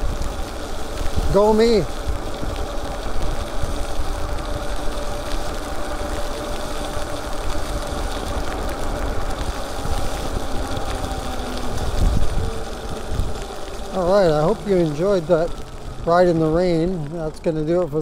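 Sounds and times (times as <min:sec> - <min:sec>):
faint electric motor hum: 0:00.0 - 0:18.0
tyres on wet pavement: 0:00.0 - 0:18.0
wind rumbling on microphone: 0:00.0 - 0:18.0.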